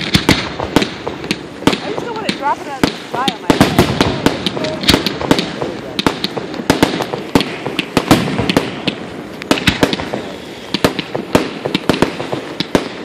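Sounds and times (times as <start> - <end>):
continuous crackle: 0.0 - 13.0
fireworks cracking and popping: 0.0 - 13.0.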